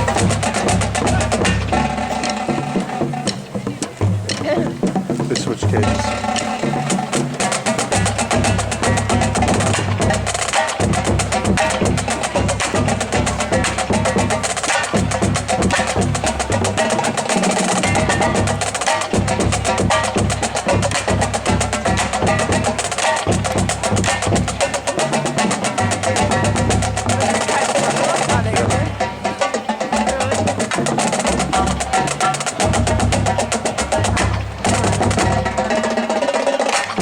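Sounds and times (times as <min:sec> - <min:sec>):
marching drumline cadence: 0:00.0 - 0:37.0.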